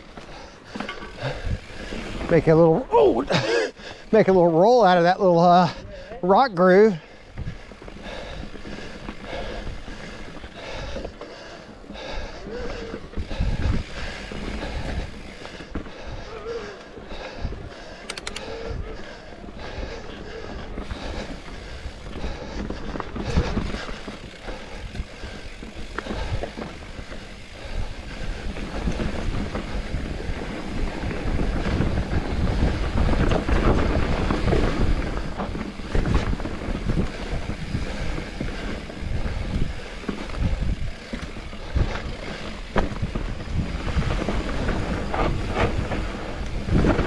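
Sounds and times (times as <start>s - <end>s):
bike rattling and knocking: 0.0s - 47.0s
bike tyres rolling over rocks: 0.0s - 47.0s.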